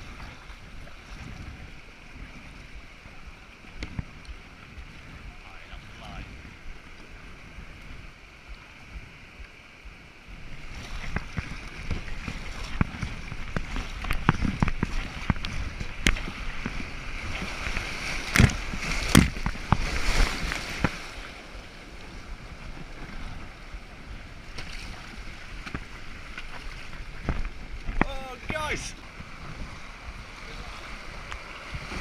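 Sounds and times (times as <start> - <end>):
kayak splashing through whitewater: 0.0 - 32.0.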